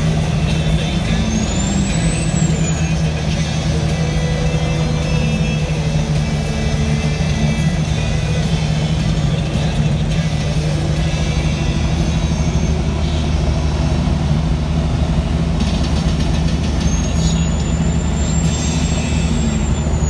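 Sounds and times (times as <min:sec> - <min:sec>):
truck diesel engine running: 0:00.0 - 0:20.0
thin high whine: 0:00.6 - 0:20.0.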